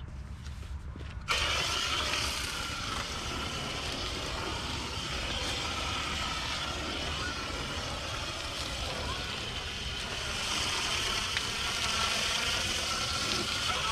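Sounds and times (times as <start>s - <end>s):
hissing water spray: 1.3s - 13.9s.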